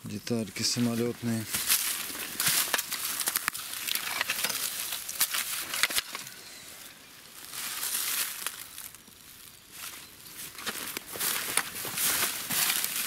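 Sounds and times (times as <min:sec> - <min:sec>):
footsteps crunching dry leaves: 0:00.2 - 0:13.0.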